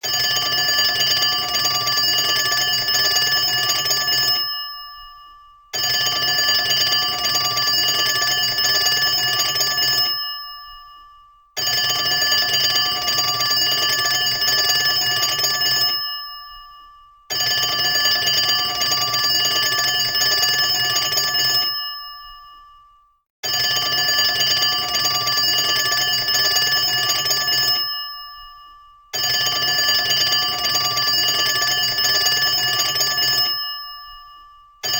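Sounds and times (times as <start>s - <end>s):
telephone bell ringing: 0.0s - 34.9s.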